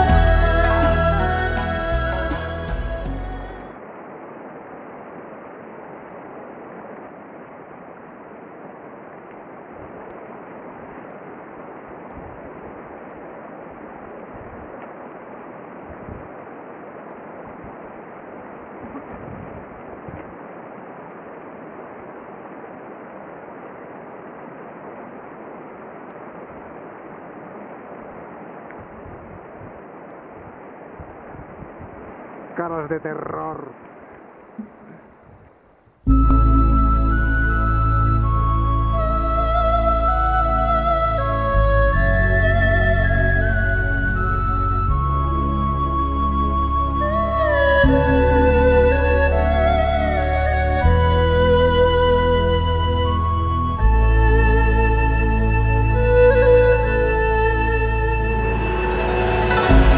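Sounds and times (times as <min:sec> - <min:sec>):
wind noise on microphone: 0:00.0 - 0:32.5, 0:34.0 - 0:59.9.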